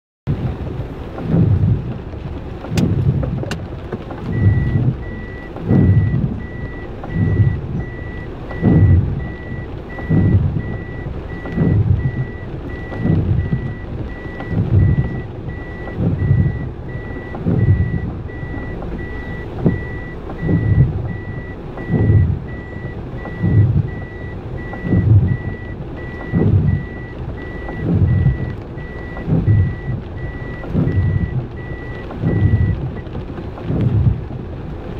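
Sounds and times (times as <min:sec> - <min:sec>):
constant rushing background: 0:00.3 - 0:34.9
reversing alarm beeping: 0:04.3 - 0:33.1.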